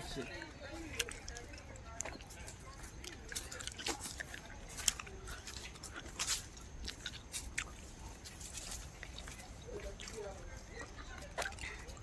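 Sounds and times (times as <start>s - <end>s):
close crunching and clicking: 0.0s - 12.0s.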